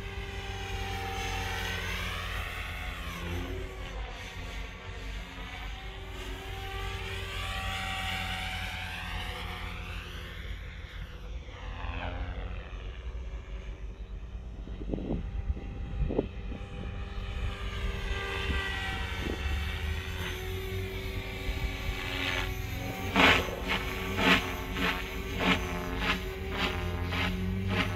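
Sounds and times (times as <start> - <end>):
rc helicopter motor whine: 0.0 - 27.9.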